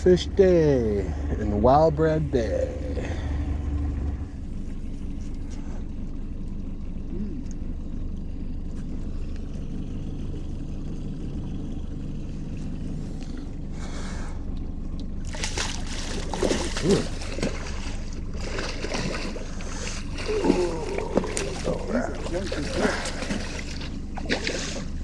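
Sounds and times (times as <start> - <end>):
boat motor humming: 0.0 - 25.0.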